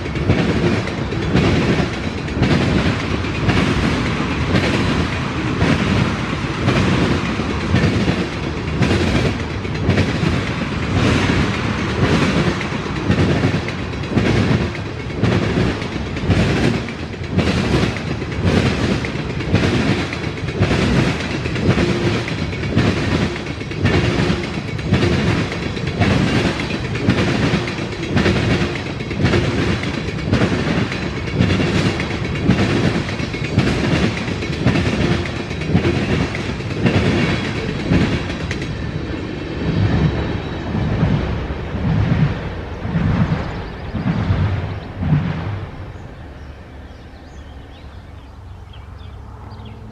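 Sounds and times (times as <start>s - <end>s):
train wheels clacking over rail joints: 0.0s - 49.9s.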